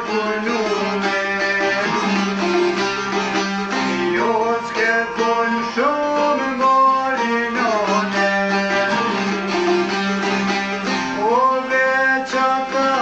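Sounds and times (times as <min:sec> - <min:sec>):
plucked lute folk melody: 0:00.0 - 0:13.0.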